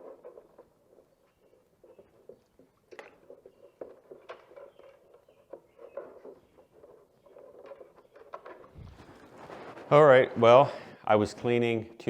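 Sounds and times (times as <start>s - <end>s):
hands scratching and rustling parts: 0.0s - 10.6s.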